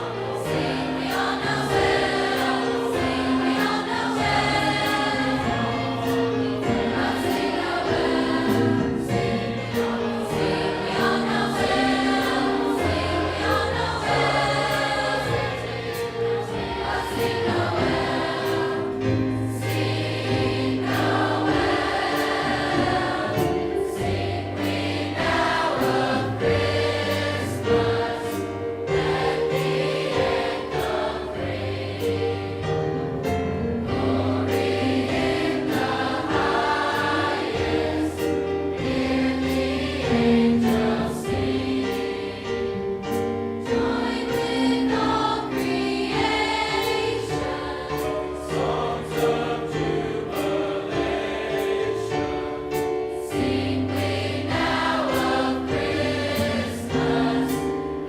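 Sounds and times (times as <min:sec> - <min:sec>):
large choir singing: 0:00.0 - 0:58.0.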